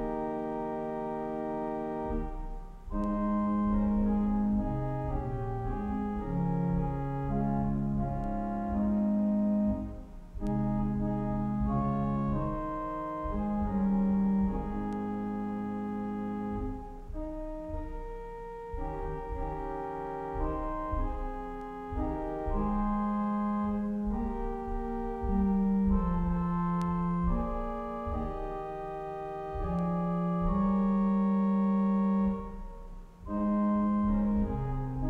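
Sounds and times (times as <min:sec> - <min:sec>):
church organ chords: 0:00.0 - 0:35.0.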